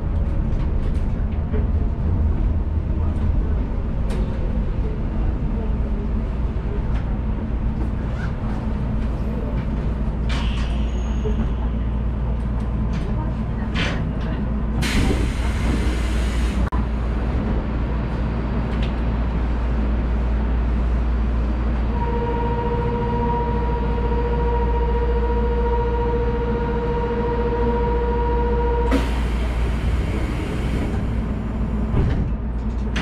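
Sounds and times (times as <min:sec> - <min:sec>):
monorail car low hum: 0:00.0 - 0:33.0.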